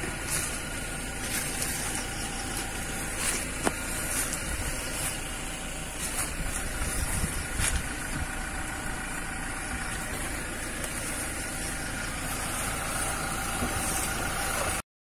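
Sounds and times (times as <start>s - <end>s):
vehicle engine running: 0.0s - 14.8s.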